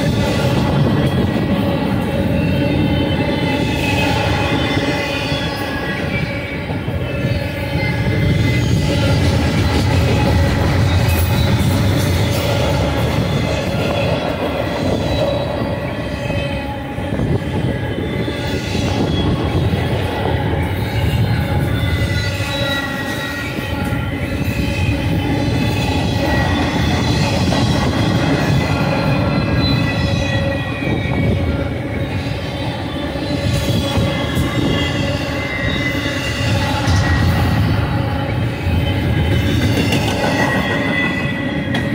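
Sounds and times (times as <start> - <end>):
train wheels rumbling on rail: 0.0 - 41.9
faint thin squeal: 0.1 - 41.9.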